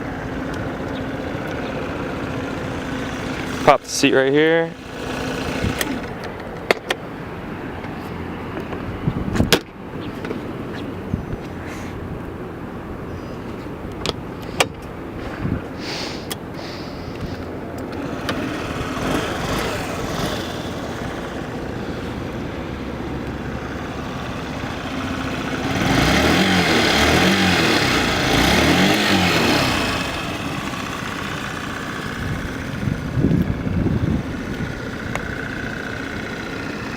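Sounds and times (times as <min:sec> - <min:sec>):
scooter engine idling and revving: 0:00.0 - 0:36.9.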